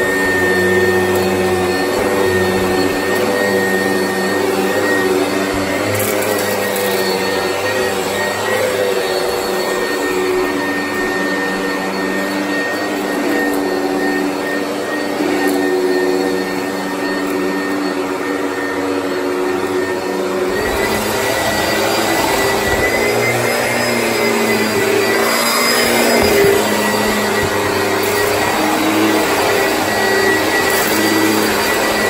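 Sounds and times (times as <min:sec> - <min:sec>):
vacuum cleaner motor whine: 0:00.0 - 0:32.0.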